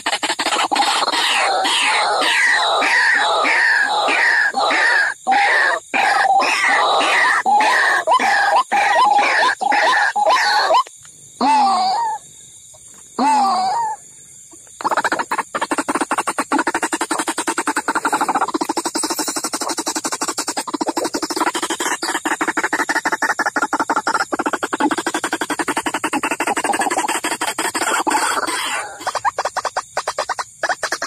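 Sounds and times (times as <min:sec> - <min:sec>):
waterhen calls: 0:00.0 - 0:12.2, 0:12.9 - 0:31.0.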